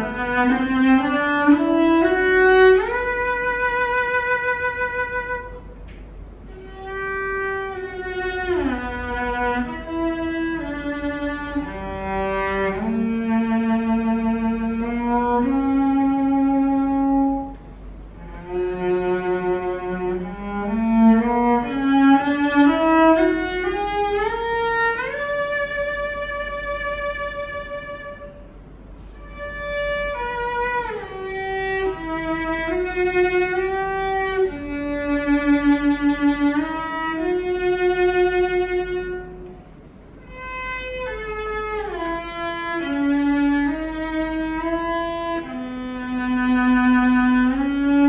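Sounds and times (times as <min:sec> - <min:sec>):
bowed cello melody: 0:00.0 - 0:48.0.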